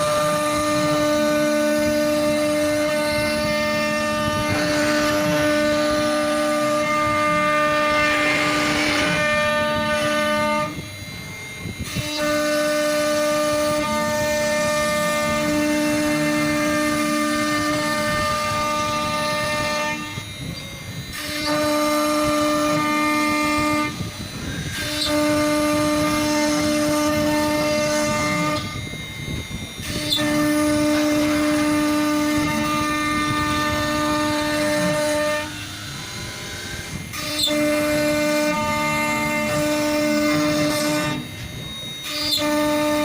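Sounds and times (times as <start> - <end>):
router spindle high whine: 0.0 - 43.0.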